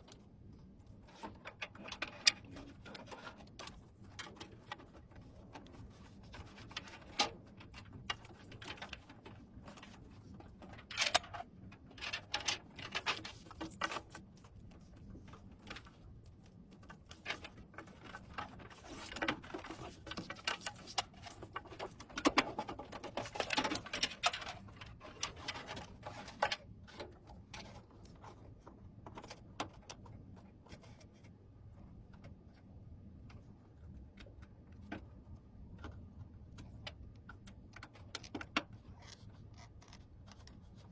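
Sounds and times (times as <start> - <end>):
hands handling computer parts: 0.0 - 40.9.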